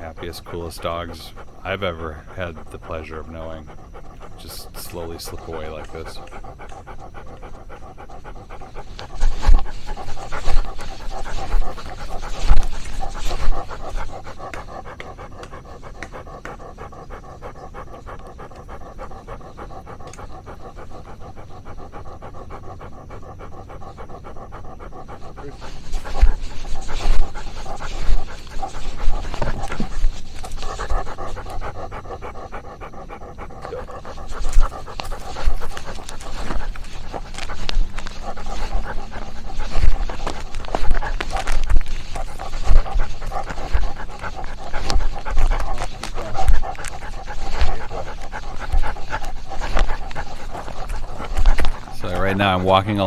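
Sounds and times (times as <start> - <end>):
dog panting: 0.0 - 53.0.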